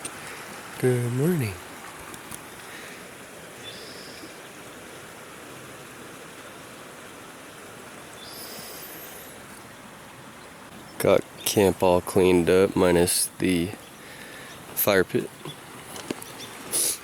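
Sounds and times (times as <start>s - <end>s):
river flowing: 0.0s - 17.0s.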